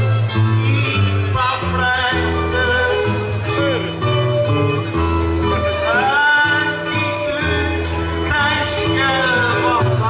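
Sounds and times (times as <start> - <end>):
plucked guitars playing folk tune: 0.0 - 10.0.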